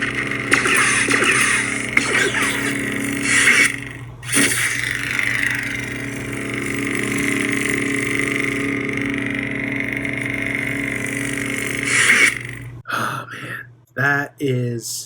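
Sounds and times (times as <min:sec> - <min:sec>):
buzzing lightsaber hum: 0:00.0 - 0:12.9.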